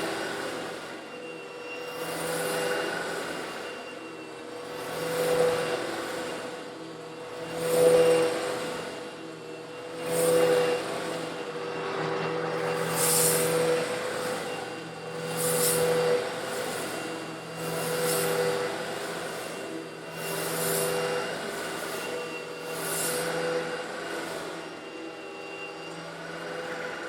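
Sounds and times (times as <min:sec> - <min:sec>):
vacuum cleaner motor hum: 0:00.0 - 0:27.0.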